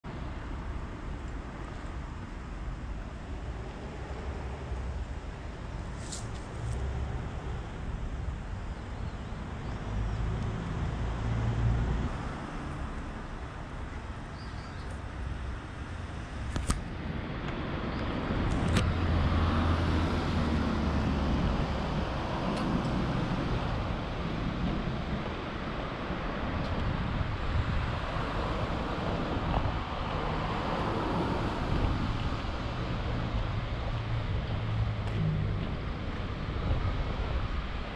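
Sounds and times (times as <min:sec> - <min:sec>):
passing cars rumble: 0:00.0 - 0:37.9.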